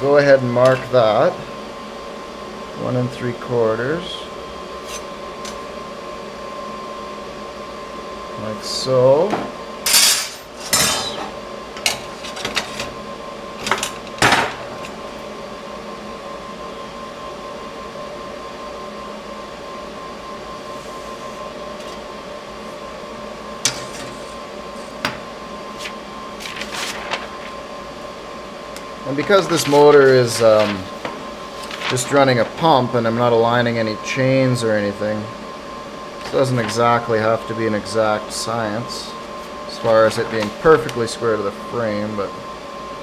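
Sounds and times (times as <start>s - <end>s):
workshop hum: 0.0s - 43.0s.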